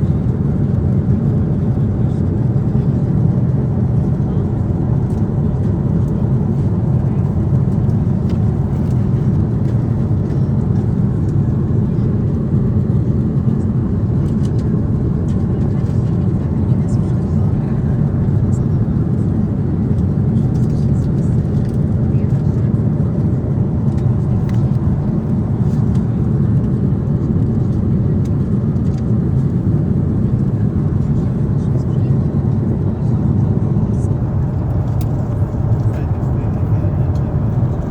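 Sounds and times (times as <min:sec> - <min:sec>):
airplane cabin engine rumble: 0:00.0 - 0:37.9.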